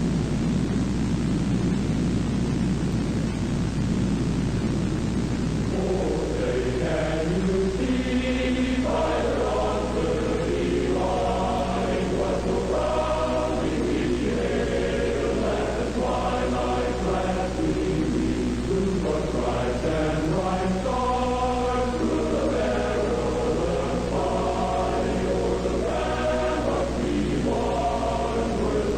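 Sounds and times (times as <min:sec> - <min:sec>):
steady low hum: 0:00.0 - 0:28.9
choir-like chanting voices: 0:05.7 - 0:28.9.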